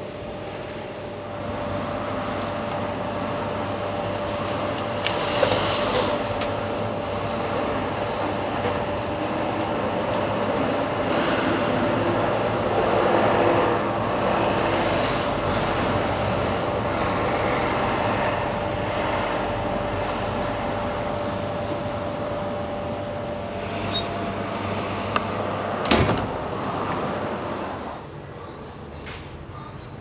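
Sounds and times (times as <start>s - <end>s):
vending machine hum: 0.0s - 30.0s.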